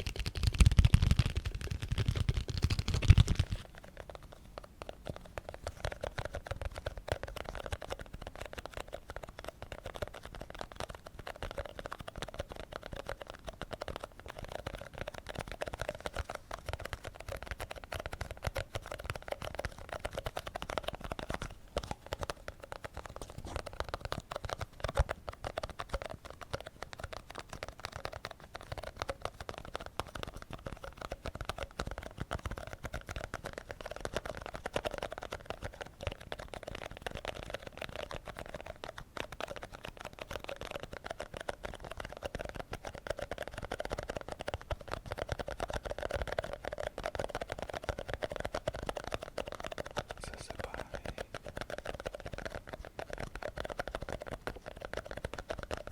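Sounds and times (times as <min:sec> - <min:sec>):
fast light tapping: 0:00.0 - 0:55.9.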